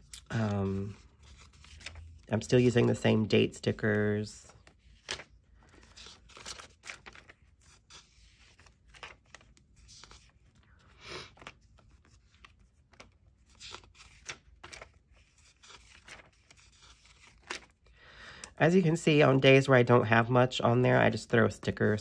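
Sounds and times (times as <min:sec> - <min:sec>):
paper pages turning: 0:00.0 - 0:17.9.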